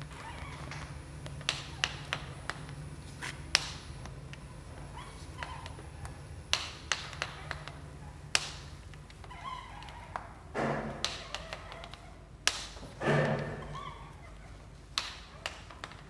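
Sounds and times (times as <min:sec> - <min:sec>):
longer noisy stroller sounds: 0:00.0 - 0:16.0.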